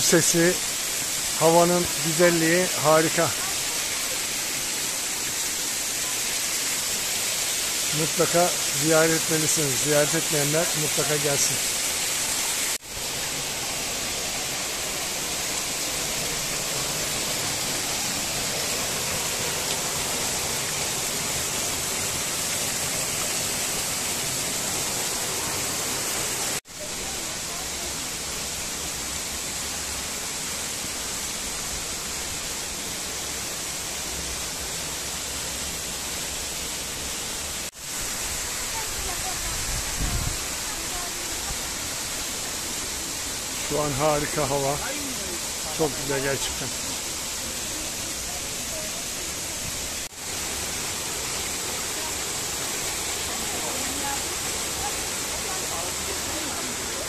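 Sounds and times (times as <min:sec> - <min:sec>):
waterfall rushing over rock: 0:00.0 - 0:57.0.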